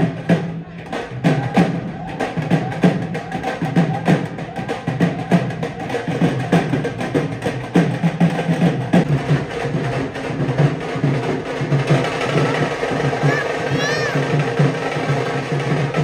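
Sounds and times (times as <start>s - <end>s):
dhol drums beating: 0.0s - 16.0s.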